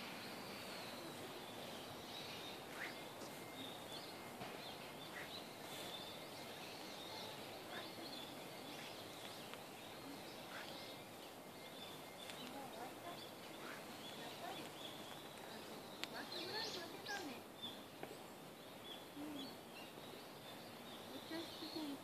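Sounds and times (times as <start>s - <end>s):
bird chirps: 0.0s - 22.0s
low background hiss: 0.0s - 22.0s.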